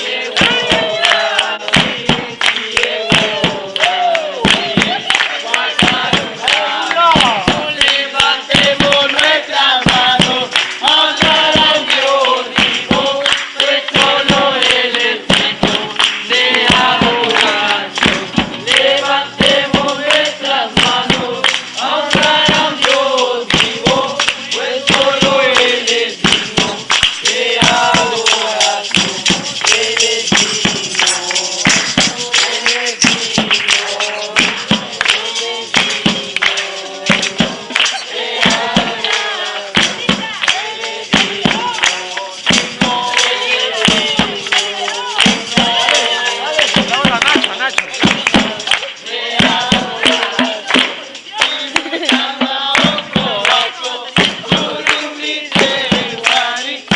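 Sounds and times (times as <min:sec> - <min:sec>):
sharp percussive hits: 0:00.0 - 0:56.9
voices singing together: 0:00.0 - 0:56.9.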